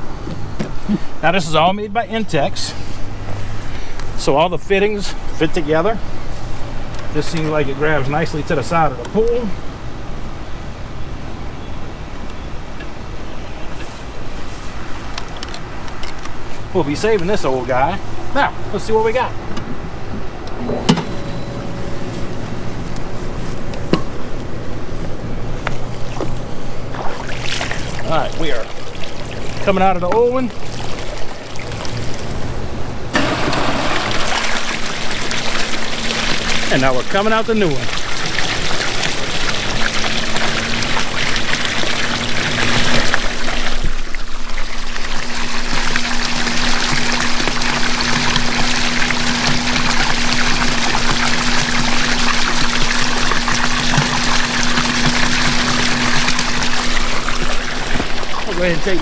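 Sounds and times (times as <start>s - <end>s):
pool filter pump humming: 0.0s - 59.0s.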